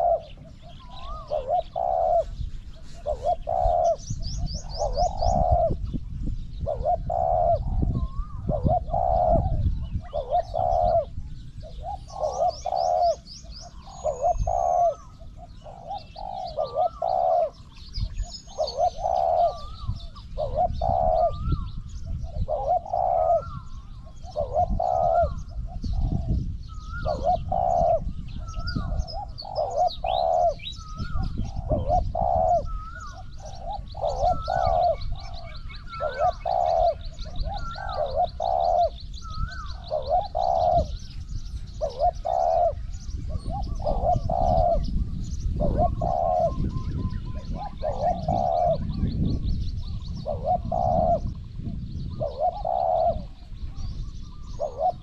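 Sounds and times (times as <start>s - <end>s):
dove cooing: 0.0s - 55.0s
small birds chirping and trilling: 0.0s - 55.0s.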